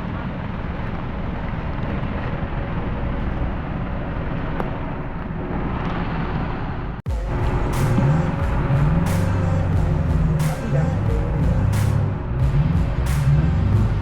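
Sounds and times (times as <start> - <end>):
off-road vehicle engine running: 0.0 - 14.0
outdoor noise: 0.0 - 14.0.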